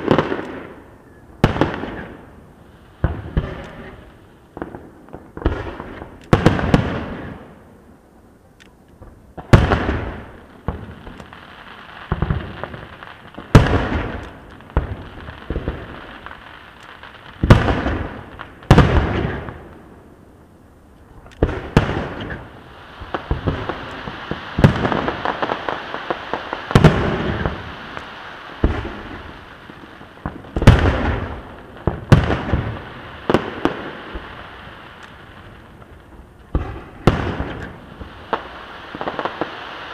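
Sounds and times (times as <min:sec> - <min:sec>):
fireworks booming: 0:00.0 - 0:07.6, 0:09.0 - 0:20.2, 0:21.2 - 0:39.9
fireworks crackling: 0:00.0 - 0:08.0, 0:08.6 - 0:39.9.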